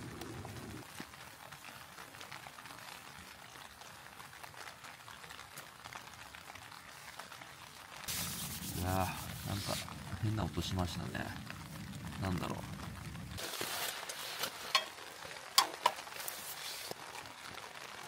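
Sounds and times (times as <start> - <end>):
rain pattering on tent fabric: 0.0 - 18.0.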